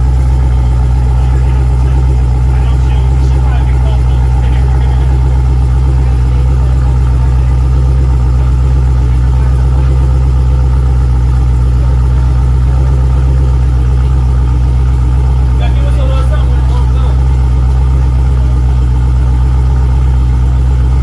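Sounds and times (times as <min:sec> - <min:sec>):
car exhaust idling: 0:00.0 - 0:21.0.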